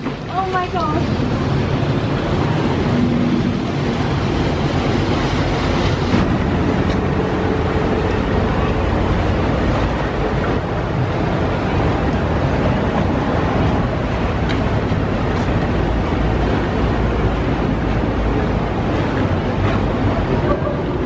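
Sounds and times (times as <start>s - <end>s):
boat engine rumbling: 0.0s - 21.0s
rushing water: 0.0s - 21.0s.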